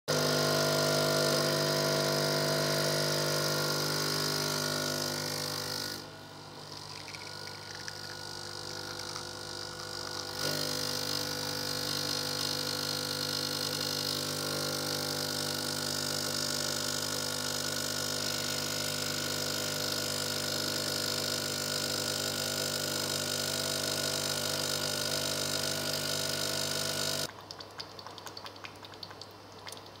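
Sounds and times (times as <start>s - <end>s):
espresso machine pump humming: 0.1s - 27.3s.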